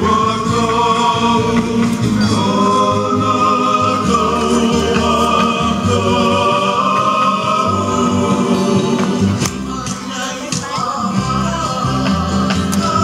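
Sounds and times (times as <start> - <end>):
steady musical accompaniment: 0.0 - 13.0
voices singing together: 0.0 - 13.0.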